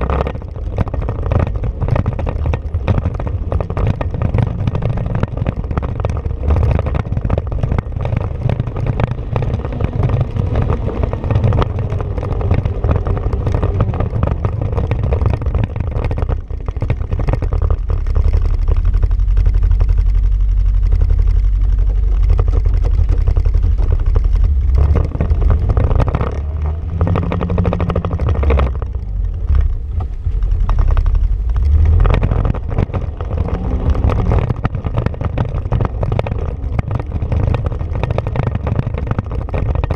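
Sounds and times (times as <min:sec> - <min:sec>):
knocks and rattles: 0:00.0 - 0:39.9
vehicle engine running: 0:00.0 - 0:39.9.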